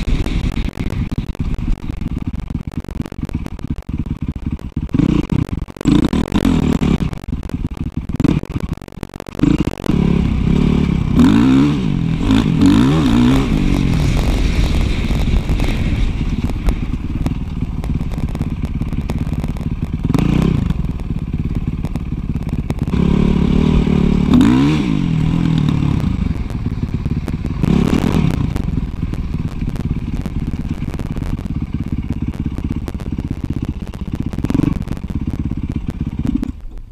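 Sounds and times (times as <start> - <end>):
wind and road noise: 0.0 - 36.9
dirt bike engine revving: 4.0 - 8.7, 9.4 - 36.6.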